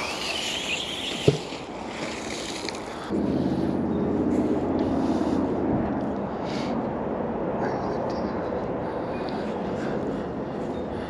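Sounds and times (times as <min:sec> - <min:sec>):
engine drone: 0:00.0 - 0:11.0
wind-like background: 0:00.0 - 0:11.0.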